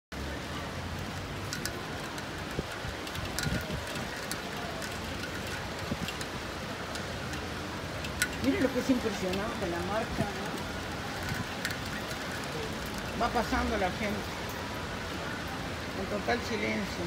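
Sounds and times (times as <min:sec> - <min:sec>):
raindrops ticking close by: 0:00.1 - 0:17.0
steady rain falling: 0:00.1 - 0:17.0.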